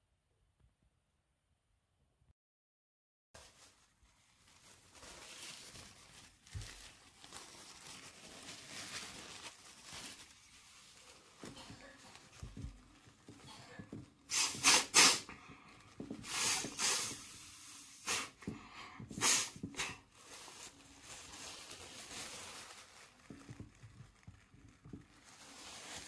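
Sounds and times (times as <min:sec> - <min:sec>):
tissue rustling: 0:03.4 - 0:26.0.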